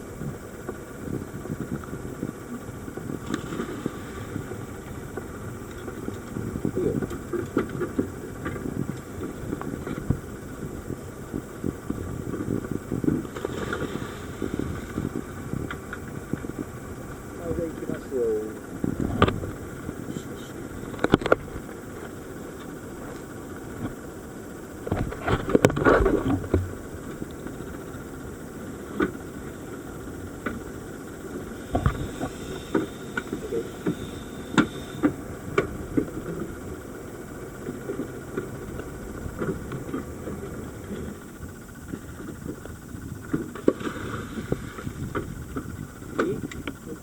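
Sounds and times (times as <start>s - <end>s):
boat engine idling: 0.0s - 47.0s.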